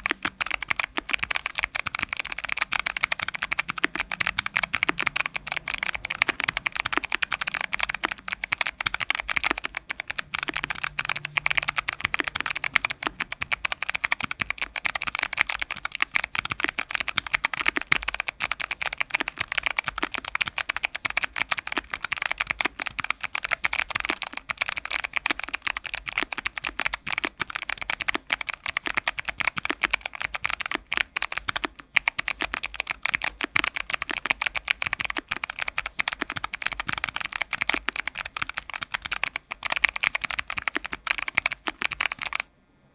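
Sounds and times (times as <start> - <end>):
mechanical keyboard typing: 0.0 - 42.5.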